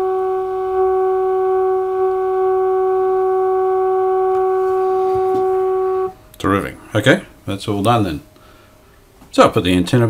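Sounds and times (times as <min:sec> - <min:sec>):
steady test tone from radio speaker: 0:00.0 - 0:09.0.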